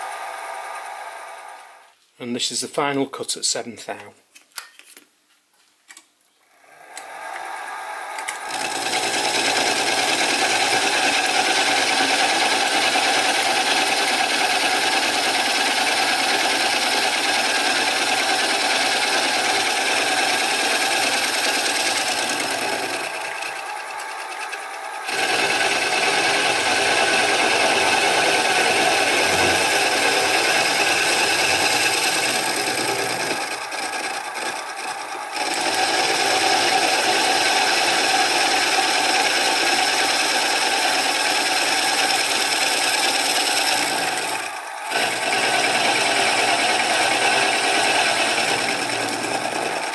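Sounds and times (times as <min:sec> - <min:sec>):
milling machine motor whine: 0:00.0 - 0:01.9, 0:06.3 - 0:49.9
cutter grinding metal: 0:06.5 - 0:49.9.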